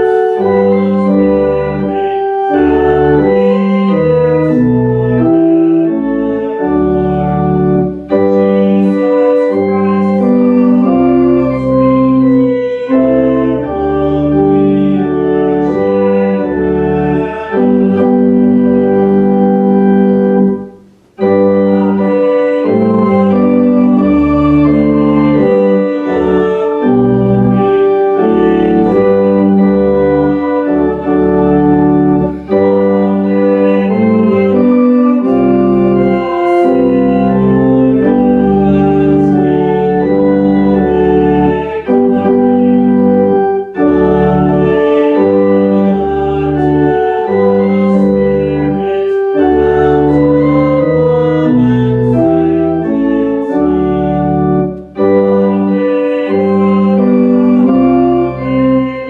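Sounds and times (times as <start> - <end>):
organ playing slow chords: 0.0 - 59.0.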